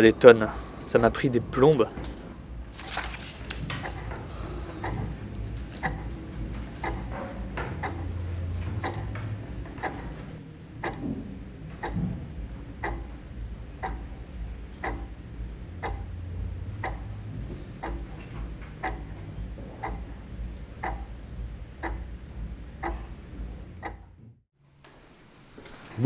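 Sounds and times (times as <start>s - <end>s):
wall clock ticking: 0.0s - 24.3s
low steady hum: 0.0s - 24.4s.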